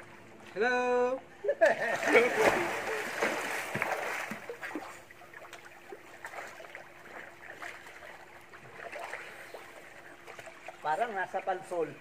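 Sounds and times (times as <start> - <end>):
pool water lapping: 0.0 - 12.0
swimmers splashing: 1.6 - 11.8.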